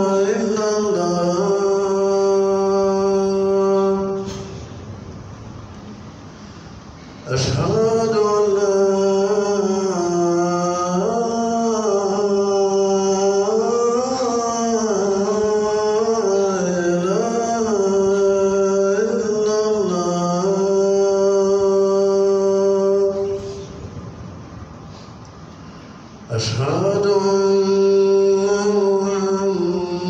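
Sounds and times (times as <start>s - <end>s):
man chanting call to prayer: 0.0s - 4.6s, 7.2s - 23.8s, 26.3s - 30.0s.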